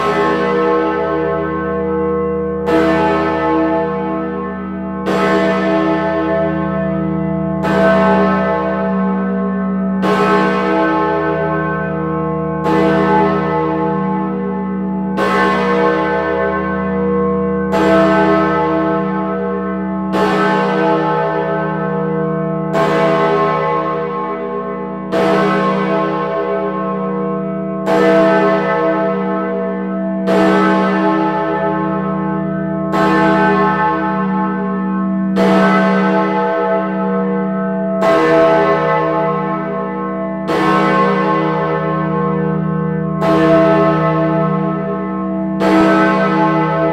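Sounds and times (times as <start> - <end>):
large bell tolling: 0.0 - 46.9.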